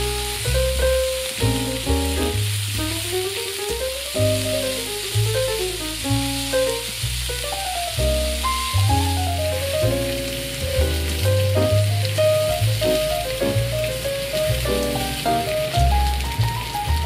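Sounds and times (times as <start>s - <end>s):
background music with plucked melody: 0.0s - 17.0s
vegetables sizzling in frying pan: 0.0s - 17.0s.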